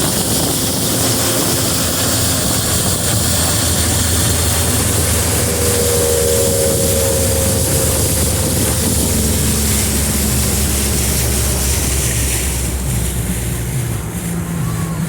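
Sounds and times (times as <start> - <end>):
outboard motor running: 0.0 - 15.0
rushing wind and water: 0.0 - 15.0.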